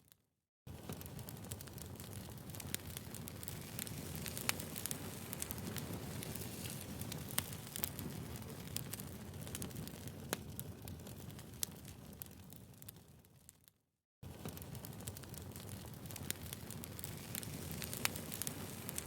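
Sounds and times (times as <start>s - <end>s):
fire snaps and pops: 0.0s - 19.0s
low rush of burning: 0.9s - 12.8s, 14.2s - 19.0s.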